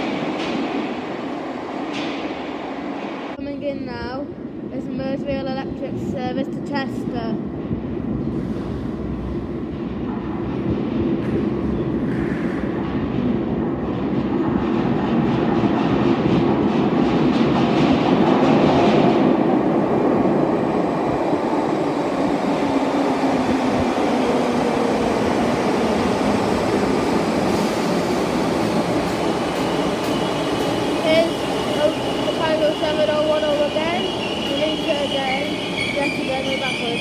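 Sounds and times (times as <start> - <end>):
electric train rumble: 0.0 - 37.0.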